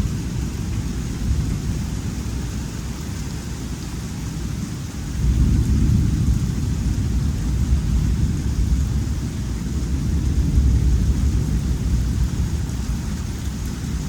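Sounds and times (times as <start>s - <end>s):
rumble of thunder: 0.0s - 2.6s, 4.5s - 14.0s
rain hissing: 0.0s - 14.0s.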